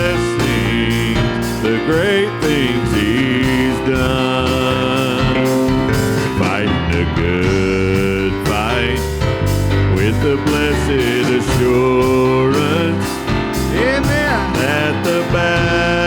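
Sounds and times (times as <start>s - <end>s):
country gospel song with guitar: 0.0s - 16.0s.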